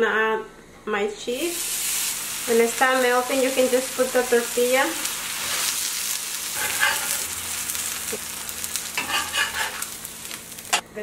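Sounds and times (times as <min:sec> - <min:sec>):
cheese and tortilla sizzling: 0:01.4 - 0:10.8
spatula scraping griddle: 0:01.5 - 0:10.8.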